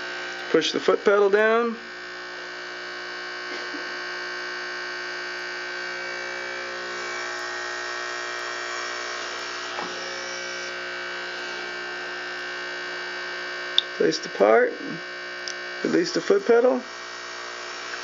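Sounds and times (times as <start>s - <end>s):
small vacuum pump buzzing: 0.0s - 18.0s.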